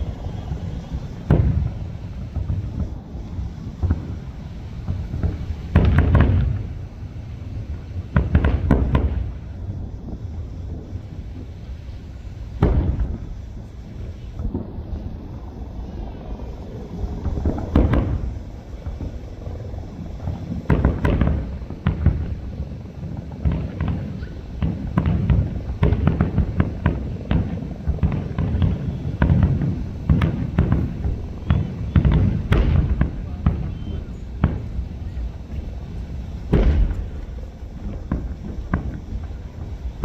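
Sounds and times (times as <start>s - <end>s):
sharp crackling pops: 0.0s - 15.4s, 16.9s - 40.0s
firework shells booming: 0.0s - 40.0s.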